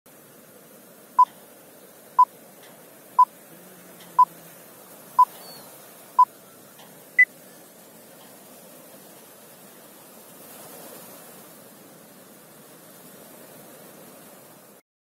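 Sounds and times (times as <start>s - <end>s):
faint steady hiss: 0.1s - 14.8s.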